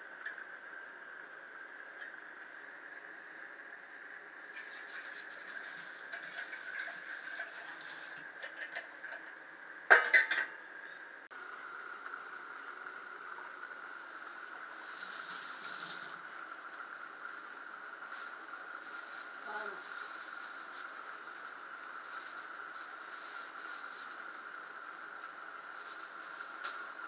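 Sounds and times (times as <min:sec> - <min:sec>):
rice boiling in water: 0:00.0 - 0:09.8, 0:11.4 - 0:27.0.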